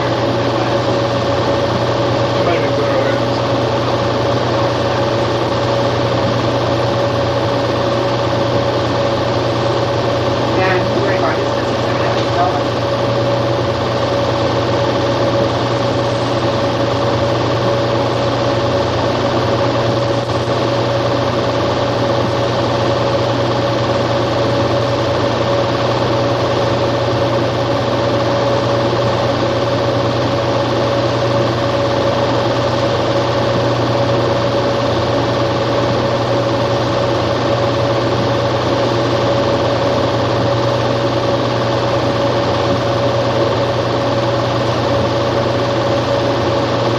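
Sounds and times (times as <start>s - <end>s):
small machine humming: 0.0s - 46.9s.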